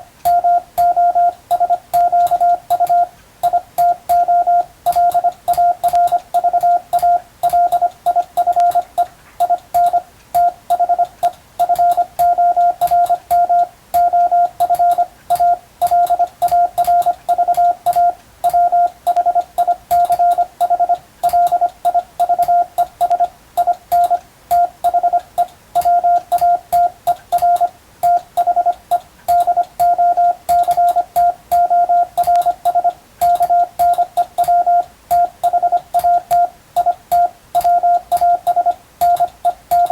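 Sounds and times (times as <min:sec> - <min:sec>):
morse code tone: 0:00.3 - 0:28.8, 0:29.4 - 0:39.9
light keying clicks: 0:04.9 - 0:39.9.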